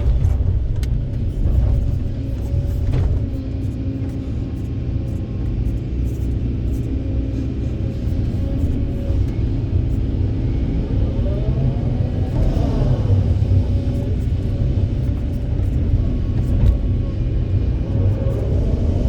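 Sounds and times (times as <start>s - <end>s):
excavator diesel engine rumble: 0.0s - 19.0s.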